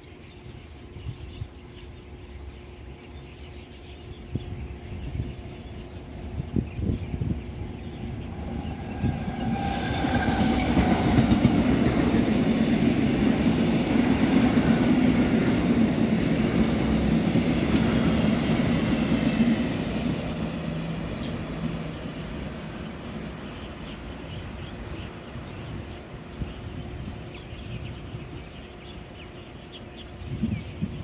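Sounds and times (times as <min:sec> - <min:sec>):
electric train running on rails: 0:02.2 - 0:31.0.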